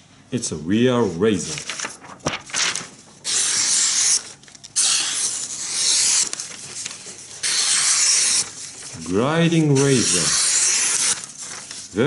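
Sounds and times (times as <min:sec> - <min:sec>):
knife slicing paper: 0:01.5 - 0:09.0, 0:09.7 - 0:12.0.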